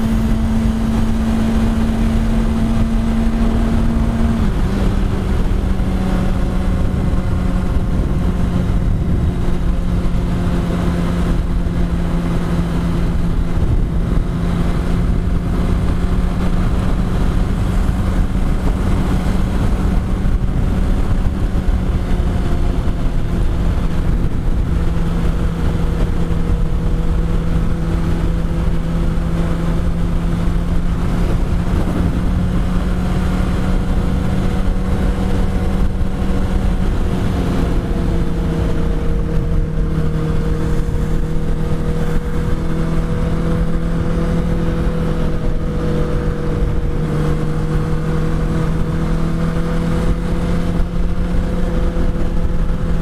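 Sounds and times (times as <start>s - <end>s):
motorcycle engine running: 0.0s - 53.0s
wind rushing over microphone: 0.0s - 53.0s.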